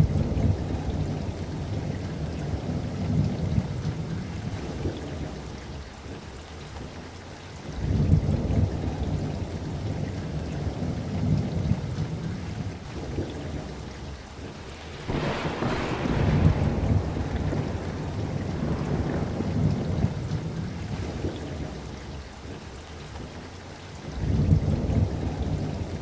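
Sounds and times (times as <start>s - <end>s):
low rolling thunder: 0.0s - 7.0s, 7.6s - 26.0s
steady rain: 0.0s - 26.0s.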